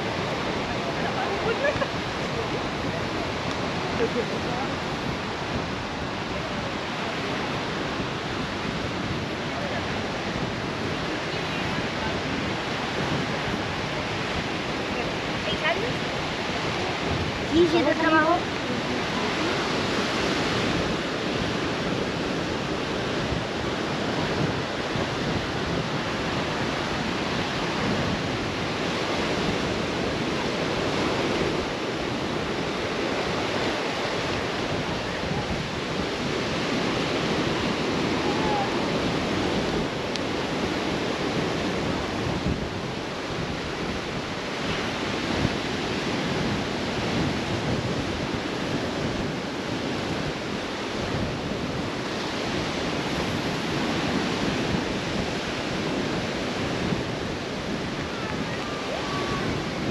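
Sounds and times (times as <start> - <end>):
steady wind: 0.0 - 59.9
surf breaking on rocks: 0.0 - 59.9
wind buffeting the microphone: 0.0 - 59.9.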